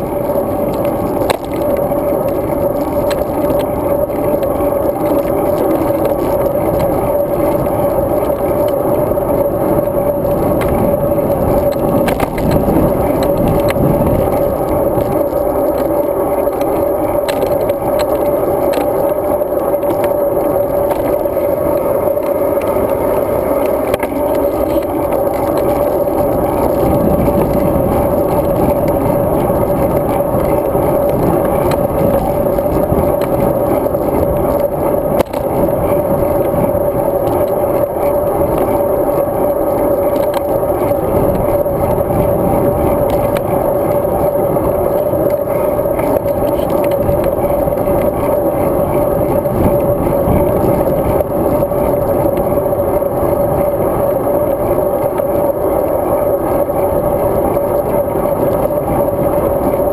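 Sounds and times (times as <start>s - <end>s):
bicycle rolling rumble: 0.0s - 59.9s
wind rush: 0.0s - 59.9s.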